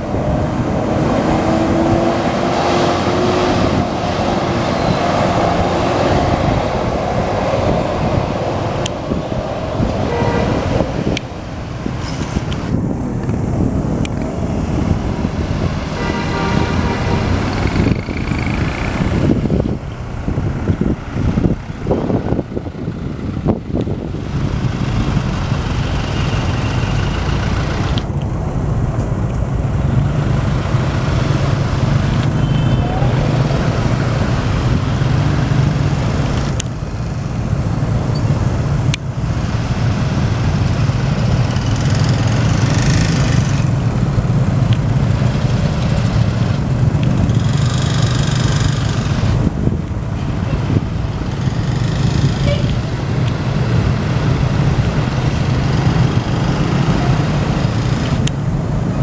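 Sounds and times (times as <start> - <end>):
bus diesel engines running: 0.0 - 59.0.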